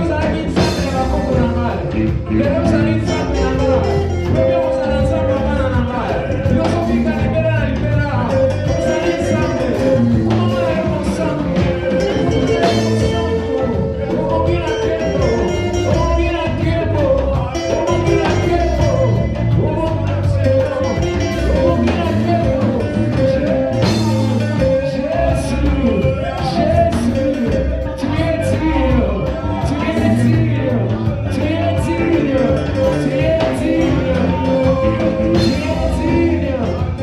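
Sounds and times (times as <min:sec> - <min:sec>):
live worship band music: 0:00.0 - 0:37.0.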